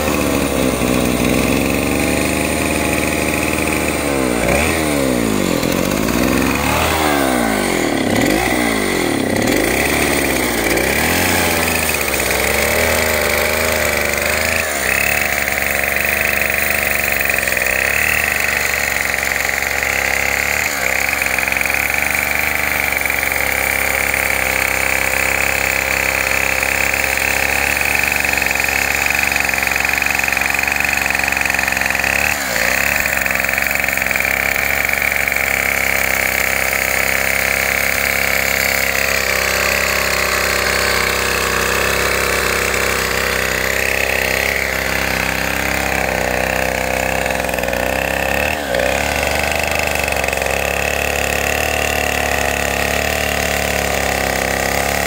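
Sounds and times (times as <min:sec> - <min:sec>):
chainsaw cutting through log: 0:00.0 - 0:55.0.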